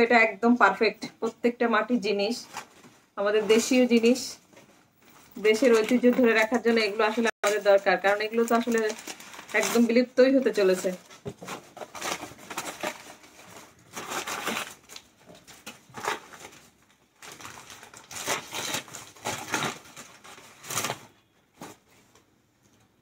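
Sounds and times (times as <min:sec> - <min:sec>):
wrapping crinkling and rustling: 0:02.2 - 0:23.0.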